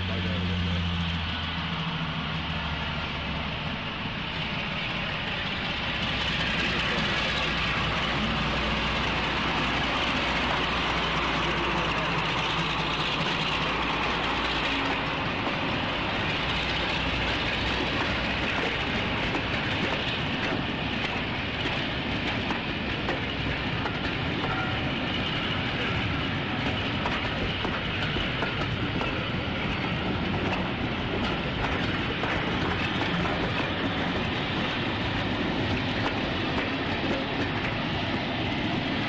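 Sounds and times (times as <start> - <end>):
locomotive engine drone: 0.0 - 39.0
train coaches rolling on rails: 0.0 - 39.0.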